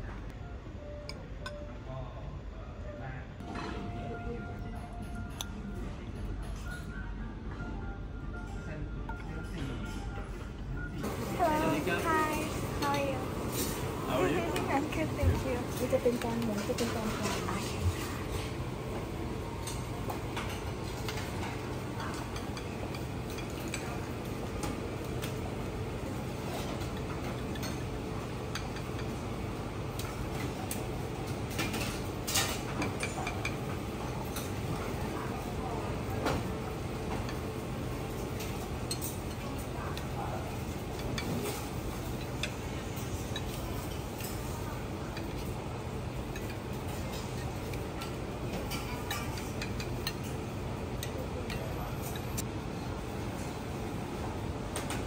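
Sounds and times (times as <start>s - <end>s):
steady background hum: 0.0s - 55.0s.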